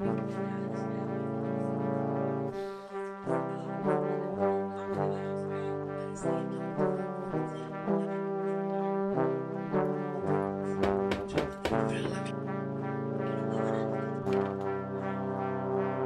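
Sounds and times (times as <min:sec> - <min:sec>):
background music with held notes: 0:00.0 - 0:16.0.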